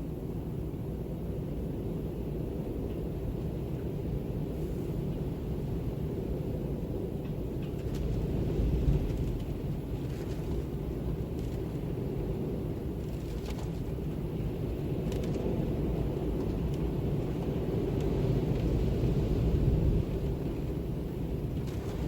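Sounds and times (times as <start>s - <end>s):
deep wind rumble: 0.0s - 22.0s.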